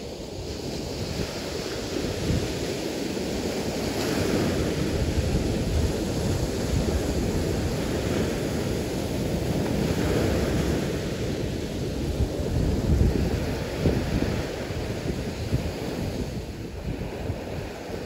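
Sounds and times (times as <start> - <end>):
small surf waves breaking: 0.0 - 18.0
wind rumbling on microphone: 0.0 - 18.0.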